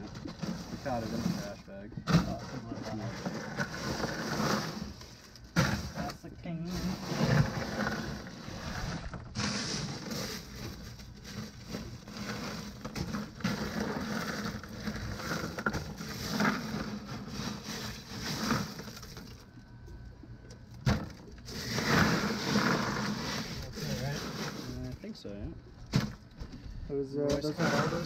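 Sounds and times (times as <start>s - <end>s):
crushed ice crunching: 0.0s - 19.5s, 20.8s - 25.3s, 27.3s - 28.0s
steady low hum: 0.0s - 28.0s.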